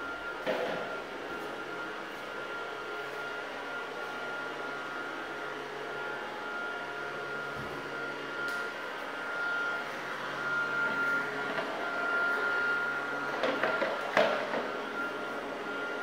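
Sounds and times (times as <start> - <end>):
fan motors whirring: 0.0 - 16.0
thin high whine: 0.0 - 16.0.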